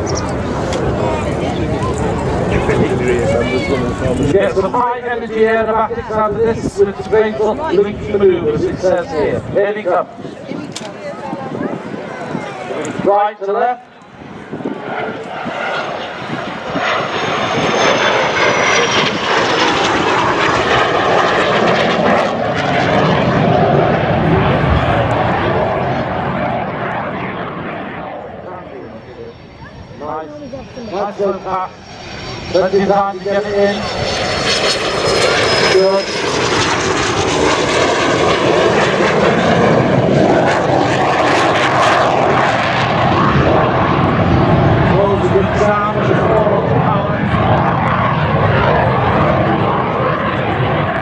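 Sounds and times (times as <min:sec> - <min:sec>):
aircraft engine running loud: 0:00.0 - 0:51.0
jet roar with high whine: 0:00.0 - 0:51.0.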